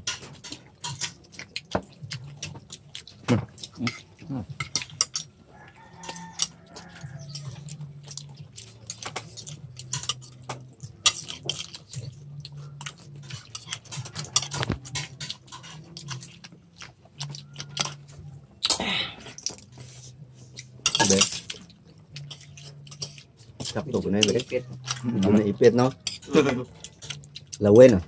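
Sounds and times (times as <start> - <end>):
spoons scraping plates: 0.0 - 1.4, 3.8 - 18.4, 19.4 - 27.5
people chewing: 0.0 - 28.0.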